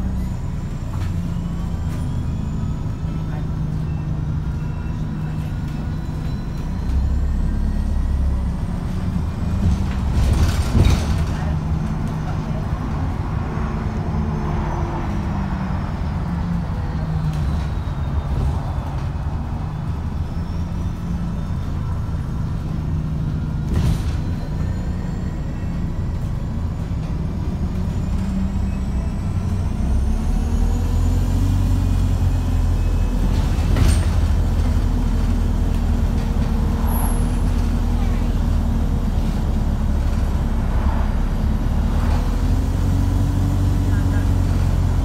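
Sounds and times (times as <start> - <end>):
bus engine drone: 0.0 - 45.0
road noise: 0.0 - 45.0.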